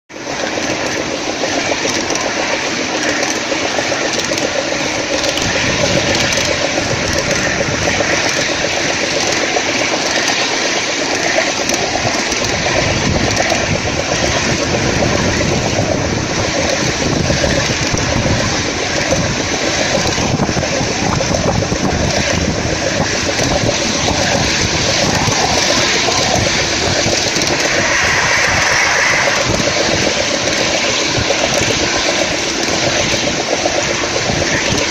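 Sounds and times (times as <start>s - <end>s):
model locomotive running: 0.1s - 34.9s
wheels clattering on track: 0.1s - 34.9s.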